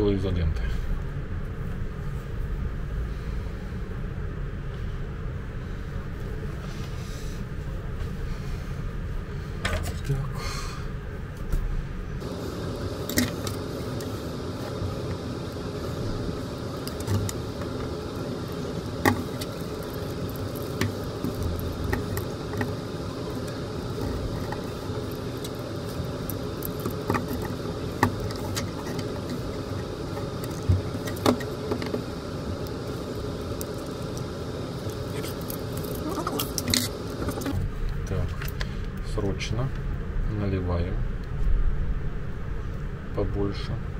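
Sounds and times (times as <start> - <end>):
whirring background hum: 0.0 - 43.9.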